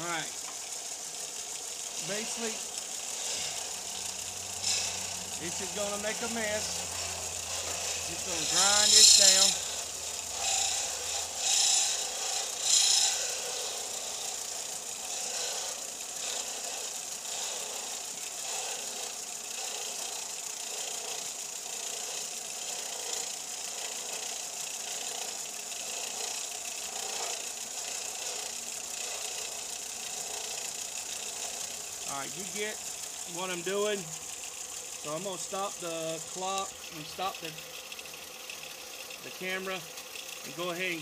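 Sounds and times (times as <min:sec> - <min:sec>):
sander grinding plastic: 0:00.0 - 0:41.0.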